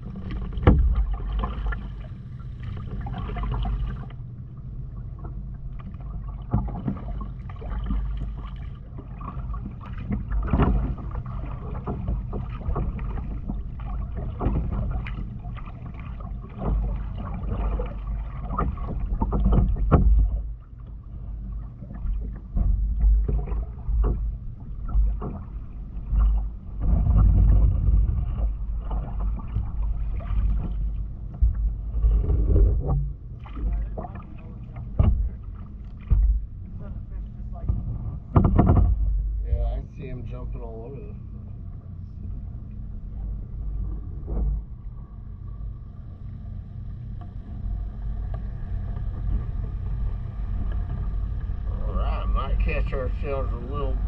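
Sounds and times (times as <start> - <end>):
paddle strokes and splashes: 0.0 - 54.0
steady low rumble: 0.0 - 54.0.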